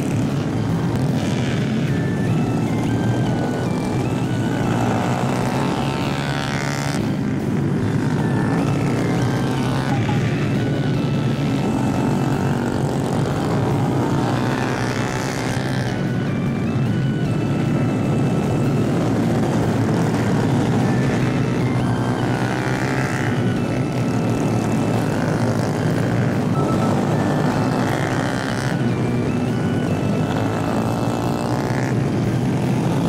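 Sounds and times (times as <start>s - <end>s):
background music: 0.0s - 33.0s
motorbike engines revving past: 0.0s - 33.0s.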